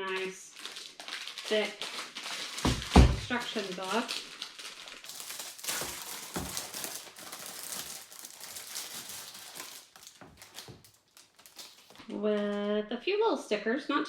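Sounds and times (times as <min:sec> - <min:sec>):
plastic packaging crinkling: 0:00.0 - 0:12.7.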